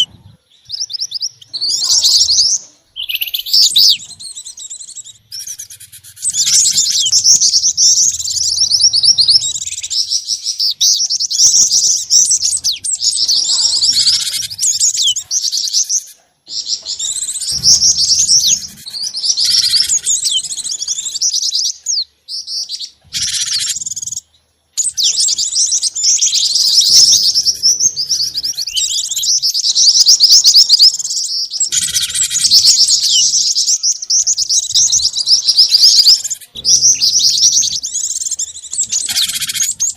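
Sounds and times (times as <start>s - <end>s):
songbirds chirping in trills: 0.0s - 39.9s.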